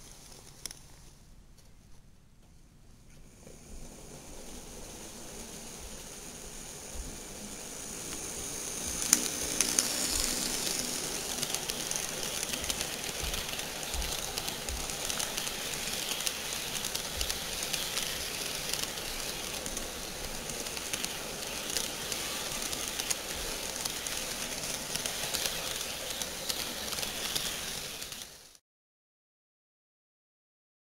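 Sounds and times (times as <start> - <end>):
wheels clicking at rail joints: 3.3 - 28.6
model train wheels rattling on track: 3.4 - 28.6.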